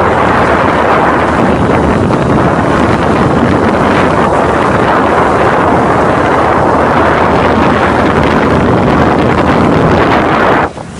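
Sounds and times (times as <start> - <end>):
outboard engine: 0.0 - 10.9
rushing water: 0.0 - 10.9
wind buffeting microphone: 0.0 - 10.9.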